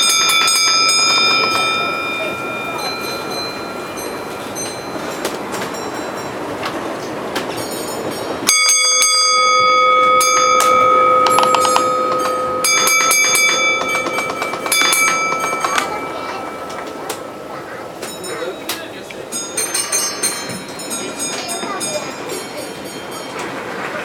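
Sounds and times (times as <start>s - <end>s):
high ringing tone: 0.0s - 6.4s, 8.5s - 23.4s.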